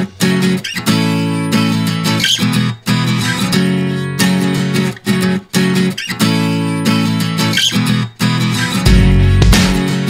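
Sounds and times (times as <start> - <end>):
strummed guitar chords: 0.0 - 10.0.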